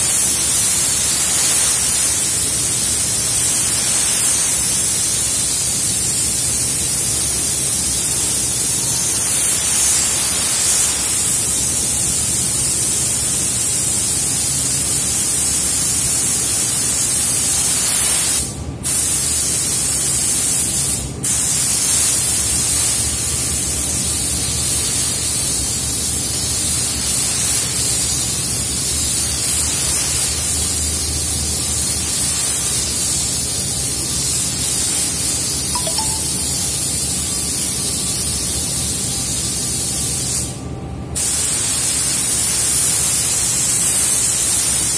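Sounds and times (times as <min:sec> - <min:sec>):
paint spray gun hissing: 0:00.0 - 0:36.8, 0:41.2 - 0:44.9.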